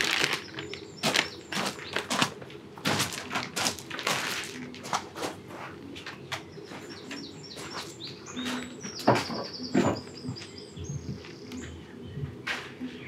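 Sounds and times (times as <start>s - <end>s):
birds chirping and whistling: 0.0s - 2.4s, 4.2s - 13.0s.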